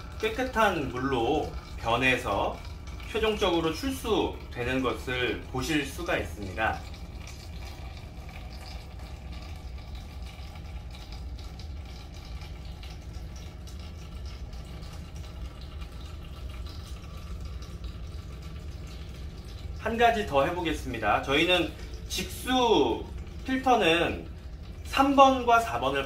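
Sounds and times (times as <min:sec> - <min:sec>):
steady low hum: 0:00.0 - 0:26.0
water running into a cup: 0:00.0 - 0:26.0.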